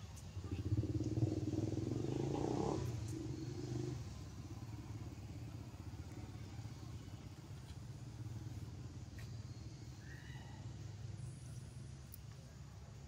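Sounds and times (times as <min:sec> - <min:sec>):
small engine droning: 0:00.0 - 0:13.0.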